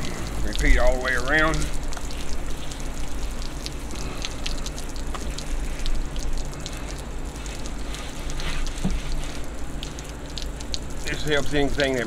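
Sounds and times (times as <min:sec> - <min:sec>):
hose water splashing on metal: 0:00.0 - 0:12.0
water dripping: 0:00.0 - 0:12.0.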